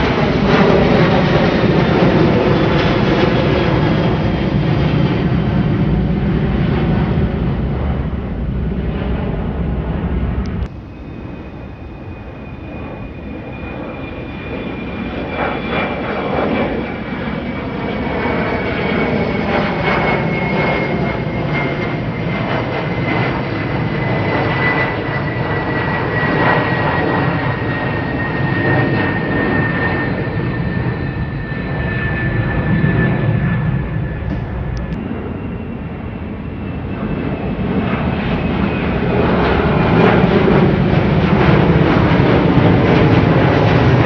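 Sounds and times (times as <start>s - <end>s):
jet airliner climbing: 0.0s - 44.0s.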